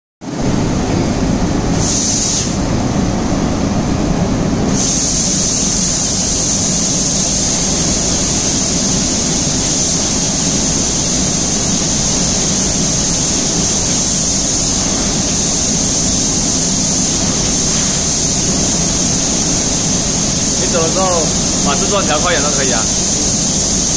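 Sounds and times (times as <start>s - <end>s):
spray machine mechanical rumble: 0.3s - 23.9s
spray guns hissing: 1.7s - 2.6s, 4.7s - 23.9s.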